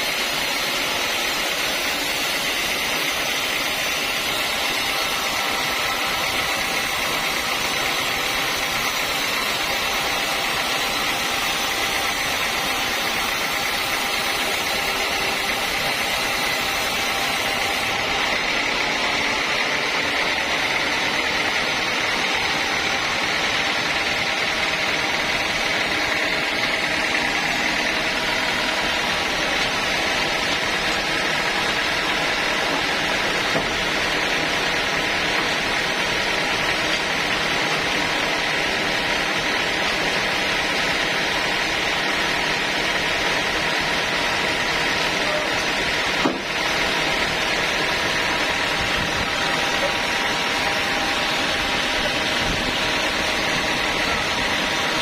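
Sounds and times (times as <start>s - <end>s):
sawmill running with high whine: 0.0s - 55.0s.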